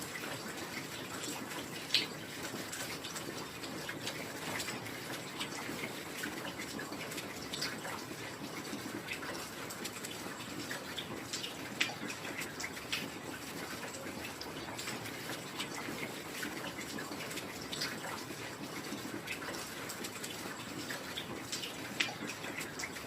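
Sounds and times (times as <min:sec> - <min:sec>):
rain downpour hiss: 0:00.0 - 0:23.0.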